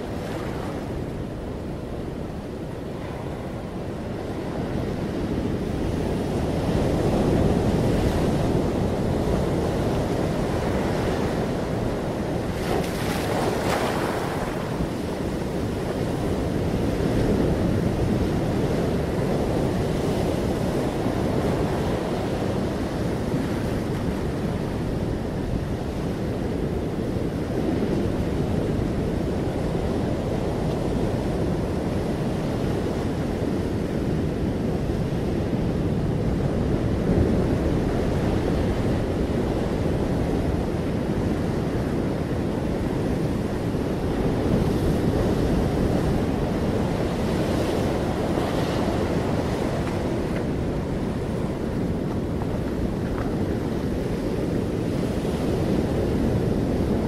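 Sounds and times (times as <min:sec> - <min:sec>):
waves breaking on sand: 0:00.0 - 0:57.0.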